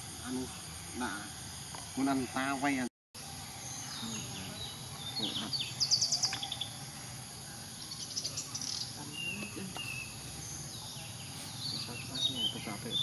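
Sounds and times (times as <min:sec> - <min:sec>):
birds trilling: 0:00.0 - 0:13.0
high insect drone: 0:00.0 - 0:13.0.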